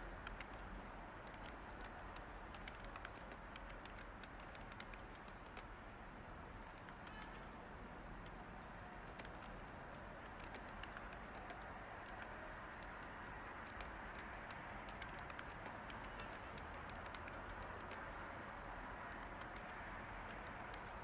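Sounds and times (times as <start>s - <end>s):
white noise hiss: 0.0s - 21.0s
keyboard typing clicks: 0.1s - 5.7s, 6.6s - 7.5s, 8.2s - 18.2s, 19.0s - 21.0s.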